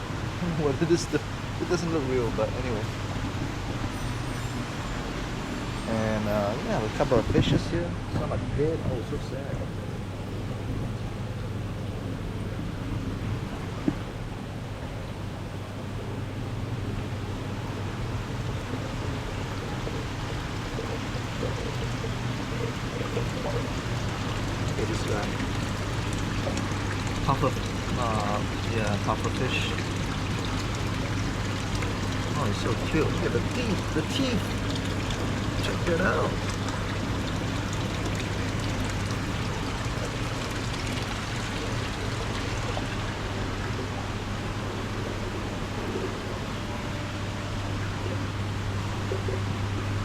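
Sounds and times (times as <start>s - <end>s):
bubbling water: 0.0s - 7.5s, 9.1s - 50.0s
low steady hum: 0.0s - 50.0s.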